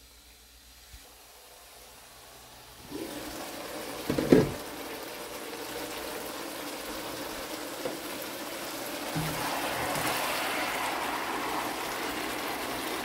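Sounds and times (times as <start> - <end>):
sauce bubbling in a wok: 1.4 - 13.0.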